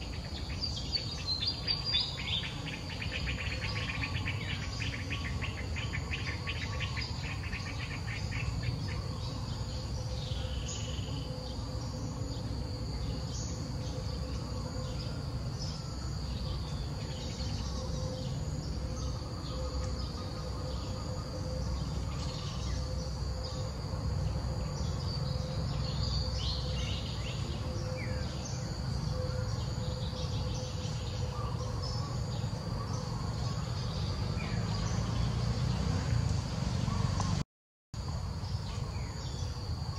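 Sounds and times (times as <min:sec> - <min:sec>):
high insect drone: 0:00.0 - 0:37.4, 0:38.0 - 0:39.9.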